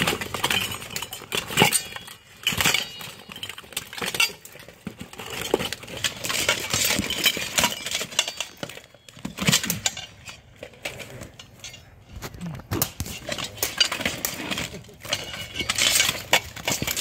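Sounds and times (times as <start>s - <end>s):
plate armour clanking and scraping: 0.0s - 17.0s.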